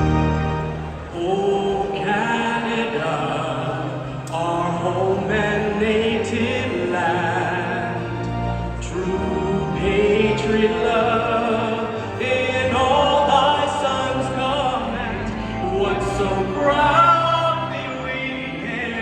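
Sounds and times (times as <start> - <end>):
operatic singing amplified: 0.0 - 19.0.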